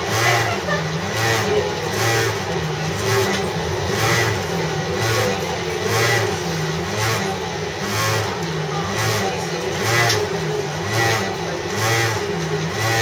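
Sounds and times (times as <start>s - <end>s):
low uneven train rumble: 0.0s - 11.7s.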